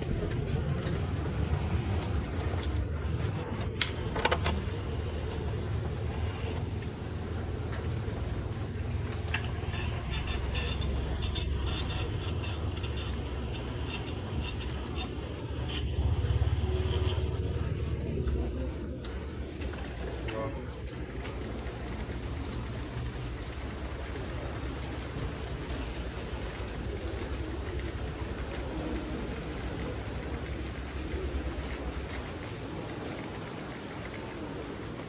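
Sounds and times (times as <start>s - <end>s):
vehicle low rumble: 0.0s - 34.9s.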